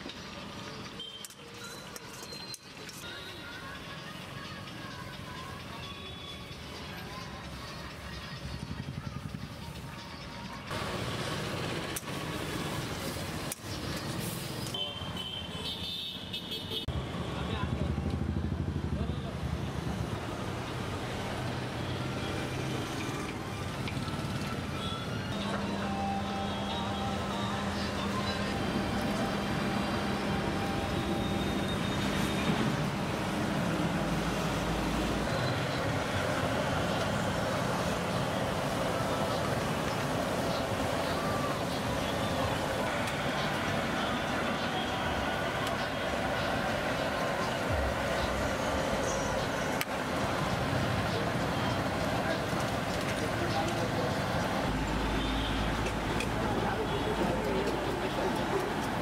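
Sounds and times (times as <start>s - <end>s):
road traffic rumbling: 0.0s - 59.0s.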